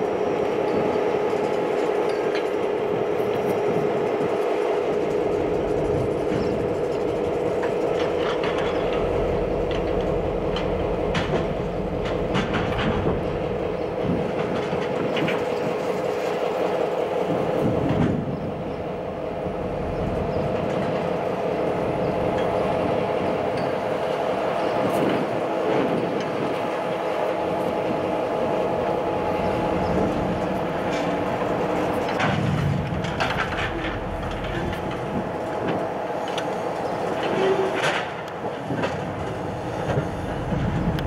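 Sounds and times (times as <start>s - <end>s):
train cars rolling on rails: 0.0s - 41.0s
wheels and couplers clattering: 0.0s - 41.0s.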